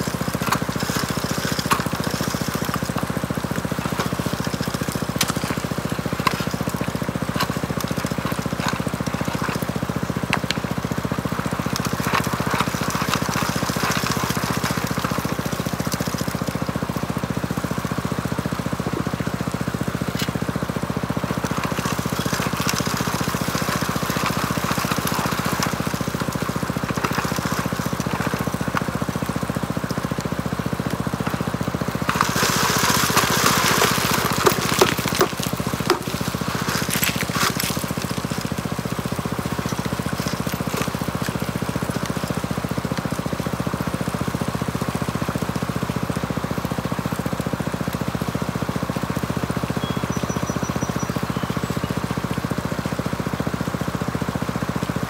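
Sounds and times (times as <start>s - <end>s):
gas engine water pump running: 0.0s - 55.0s
gravel and rocks clicking: 0.0s - 55.0s
water washing through sluice: 0.0s - 55.0s.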